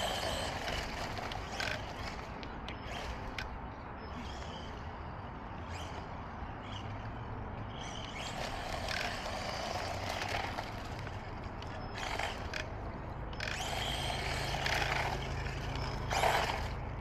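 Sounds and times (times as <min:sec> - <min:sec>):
electric rc car motor: 0:00.0 - 0:03.5, 0:04.1 - 0:07.1, 0:07.7 - 0:17.0
tyres on asphalt: 0:00.0 - 0:17.0.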